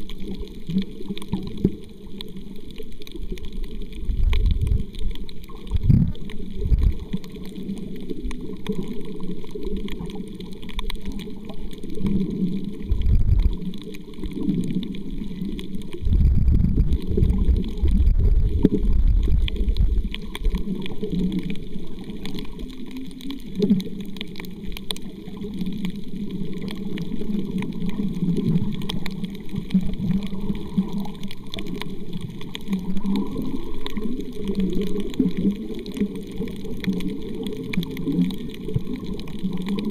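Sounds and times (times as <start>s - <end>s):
faint fine crackle: 0.0s - 39.9s
muffled underwater rumbling wash: 0.0s - 39.9s.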